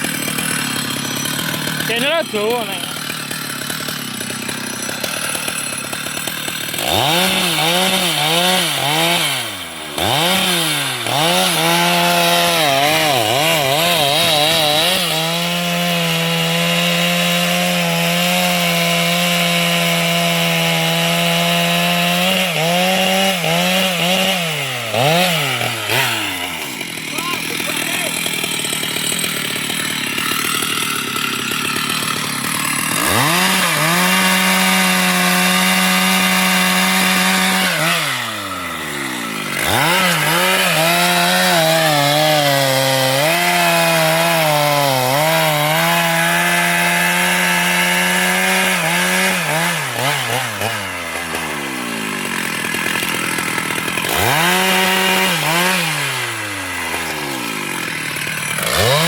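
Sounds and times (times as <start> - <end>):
chainsaw revving and idling: 0.0 - 59.0
chainsaw sawing into wood: 0.0 - 59.0.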